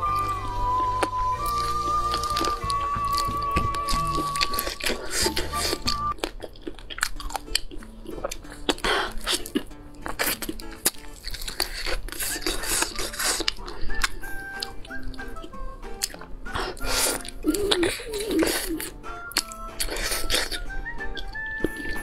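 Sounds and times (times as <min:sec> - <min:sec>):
soft background music: 0:00.0 - 0:22.0
wet chewing and crunching: 0:00.0 - 0:22.0.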